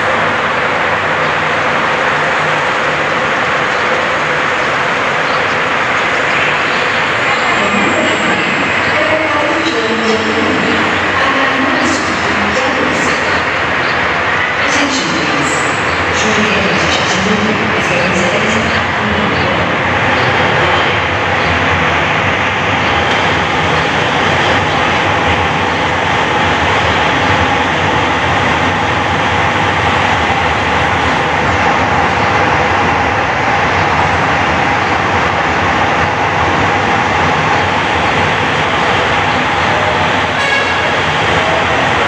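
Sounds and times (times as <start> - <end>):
electric train rumbling: 0.0 - 42.0
faint train whine: 0.0 - 42.0.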